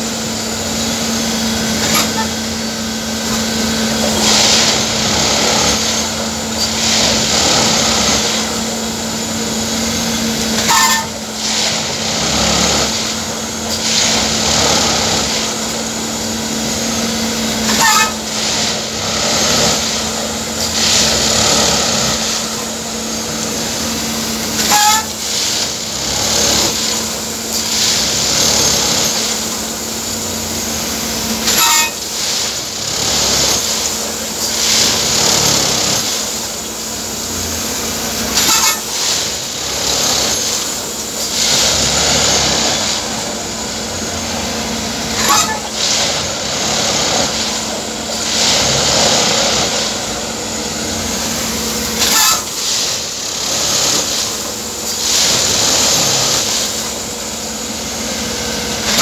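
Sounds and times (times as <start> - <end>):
machine engine and hydraulics hum: 0.0 - 59.0
tamping unit noise: 0.0 - 59.0.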